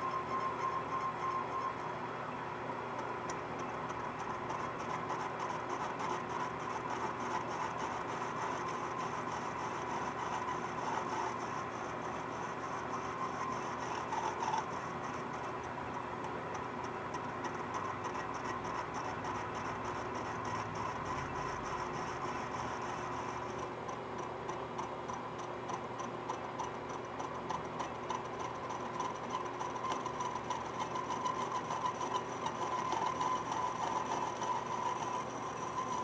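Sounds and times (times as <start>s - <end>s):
metal lathe whirring and ticking: 0.0s - 36.0s.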